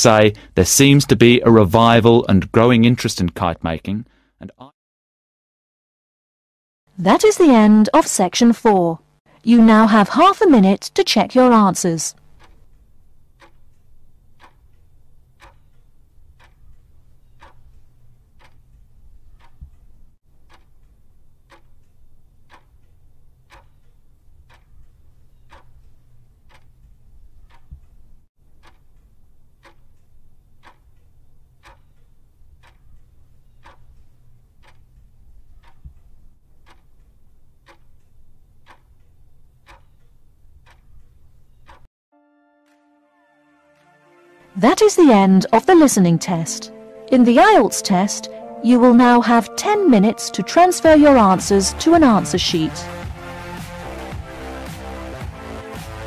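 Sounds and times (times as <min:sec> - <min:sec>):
clock ticking: 0:00.0 - 0:04.7, 0:07.0 - 0:41.9, 0:44.6 - 0:56.0.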